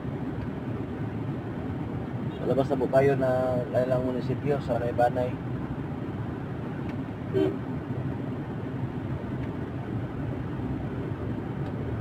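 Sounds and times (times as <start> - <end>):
car road noise and engine hum: 0.0 - 12.0.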